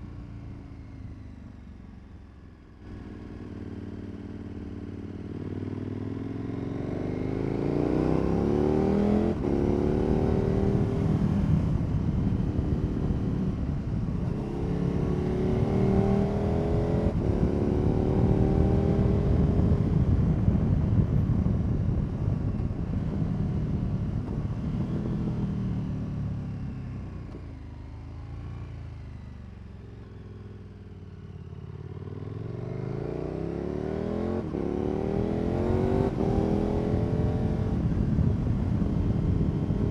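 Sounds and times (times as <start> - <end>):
motorcycle engine accelerating: 2.8 - 39.9.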